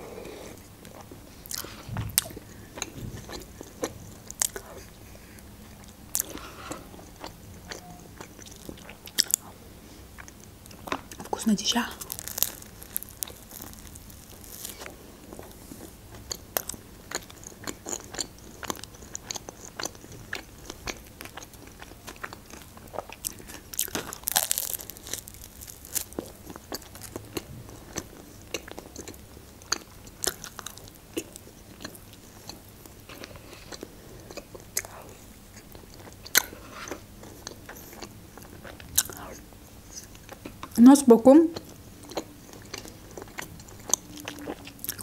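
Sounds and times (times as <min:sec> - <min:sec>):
person chewing crunchy food: 0:00.0 - 0:40.8, 0:41.6 - 0:45.0.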